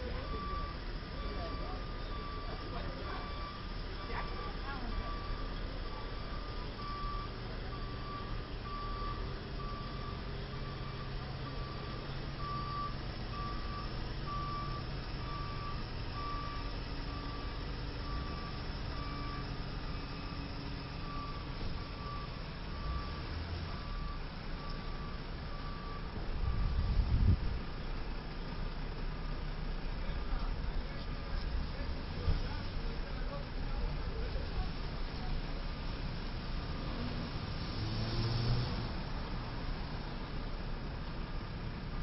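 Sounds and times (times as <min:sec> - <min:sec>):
heavy truck engine running: 0:00.0 - 0:42.0
truck reversing alarm beeping: 0:00.0 - 0:42.0.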